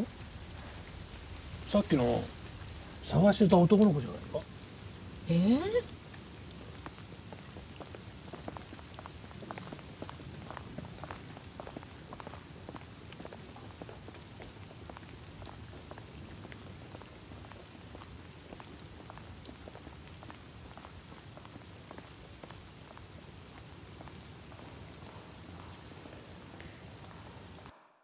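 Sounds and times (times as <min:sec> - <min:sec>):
light rain hissing: 0:00.0 - 0:27.7
raindrops pattering: 0:00.0 - 0:27.7.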